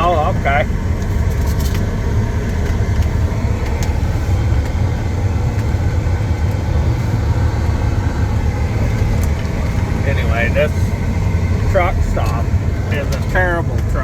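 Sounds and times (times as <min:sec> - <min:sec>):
truck engine deep rumble: 0:00.0 - 0:14.0.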